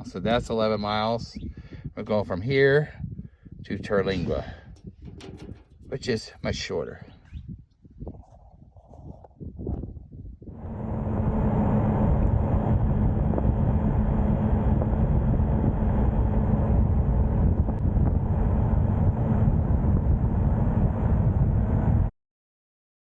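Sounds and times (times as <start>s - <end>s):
road and wind noise: 0.0s - 22.1s.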